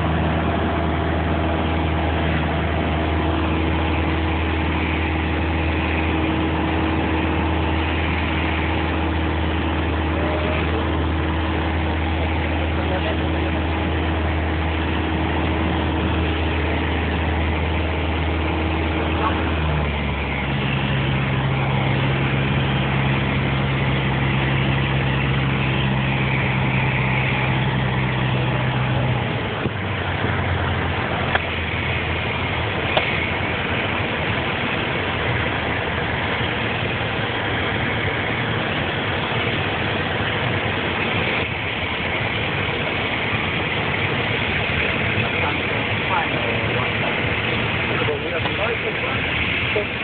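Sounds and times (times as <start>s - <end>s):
aircraft engine droning in cabin: 0.0s - 50.0s
steady hum: 0.0s - 50.0s.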